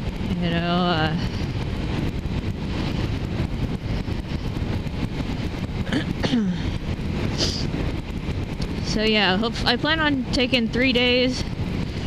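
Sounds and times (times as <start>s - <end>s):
motorcycle engine running: 0.0s - 12.0s
wind on microphone: 0.0s - 12.0s.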